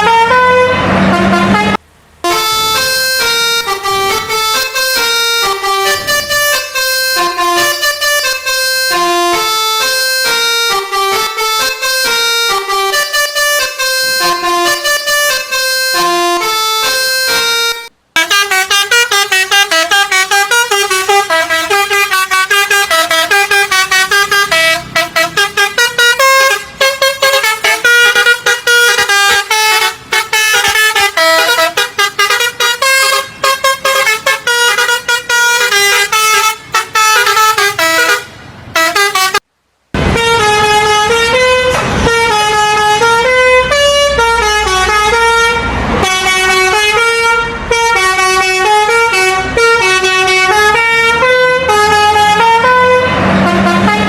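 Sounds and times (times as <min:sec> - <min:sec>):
engine rumble: 0:00.0 - 0:54.0
multi-tone air horn melody: 0:00.0 - 0:54.0.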